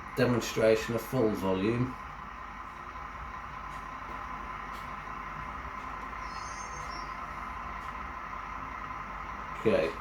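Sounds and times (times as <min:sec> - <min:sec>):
diesel engine drone from small speaker: 0:00.0 - 0:10.0.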